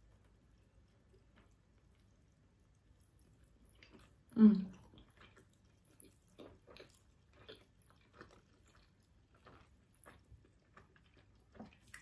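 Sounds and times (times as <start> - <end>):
chewing soft food: 0.0 - 12.0.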